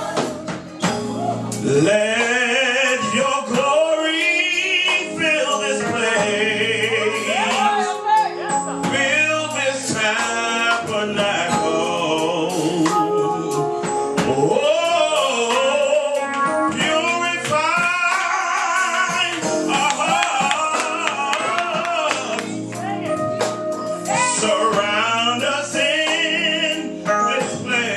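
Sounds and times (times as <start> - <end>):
band instrumental backing: 0.0 - 27.9
gospel vocalists singing: 0.0 - 27.9.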